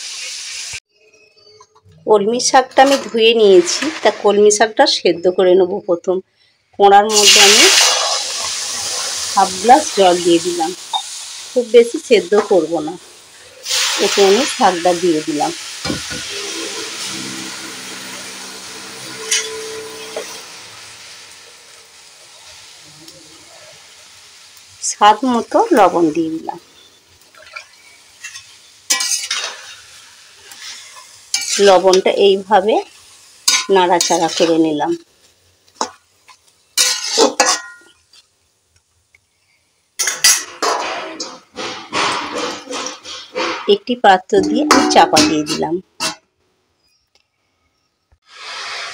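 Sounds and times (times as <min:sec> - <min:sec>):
vegetables sizzling in a pan: 0:00.0 - 0:00.8, 0:02.2 - 0:05.6, 0:06.4 - 0:46.1, 0:48.2 - 0:48.9.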